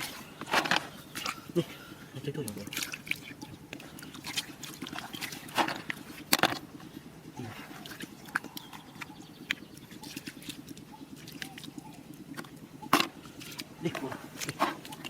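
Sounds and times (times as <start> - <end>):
low pulsing drone: 0.0 - 15.0.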